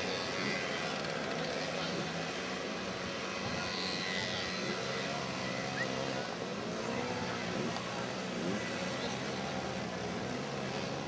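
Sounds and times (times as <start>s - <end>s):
mopeds buzzing: 0.0s - 11.0s.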